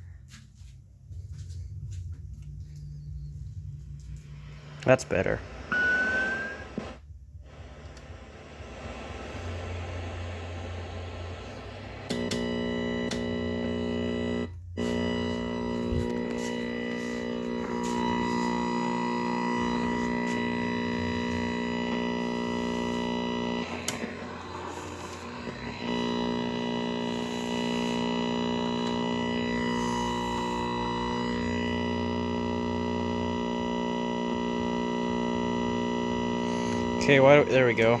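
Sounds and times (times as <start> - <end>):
television buzz and hum: 3.1 - 38.0
hissing static: 4.3 - 38.0.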